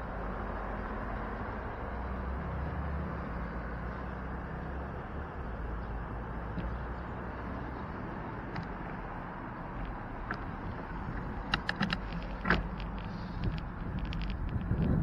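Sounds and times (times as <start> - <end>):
bicycle road and wind noise: 0.0 - 15.0.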